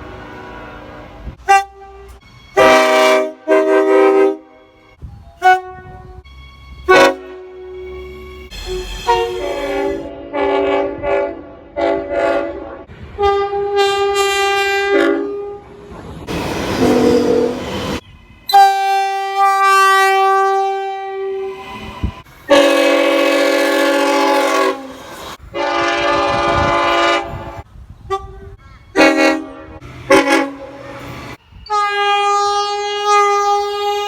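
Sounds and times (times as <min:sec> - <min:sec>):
rail noise: 0:00.0 - 0:34.0
train horn blasts: 0:00.2 - 0:15.8, 0:16.8 - 0:34.0.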